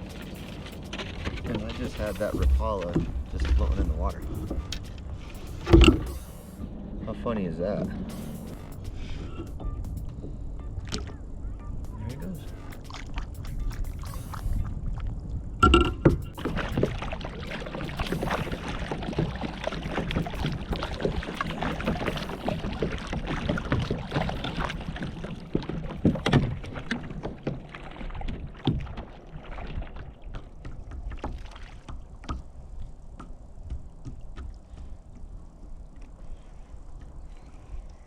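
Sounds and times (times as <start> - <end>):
water sloshing against kayak: 0.0 - 38.0.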